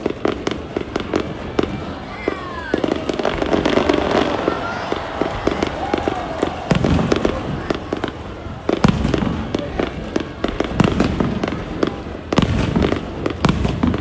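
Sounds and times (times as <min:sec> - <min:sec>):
fireworks bangs and crackles: 0:00.0 - 0:14.0
loud firework booms: 0:00.0 - 0:14.0.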